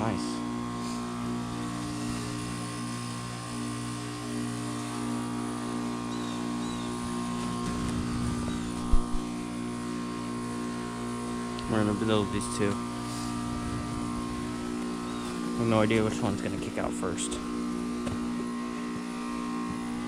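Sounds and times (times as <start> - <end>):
heat pump compressor humming: 0.0 - 20.0.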